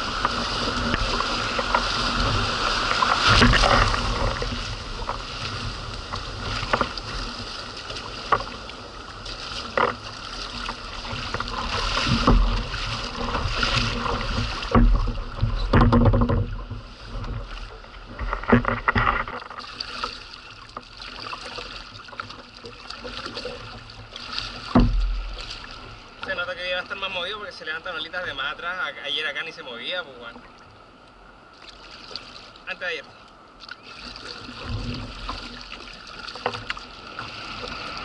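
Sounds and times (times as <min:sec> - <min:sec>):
paddle strokes splashing: 0:00.0 - 0:28.9, 0:29.6 - 0:38.0
whitewater splashing against hull: 0:00.0 - 0:38.0.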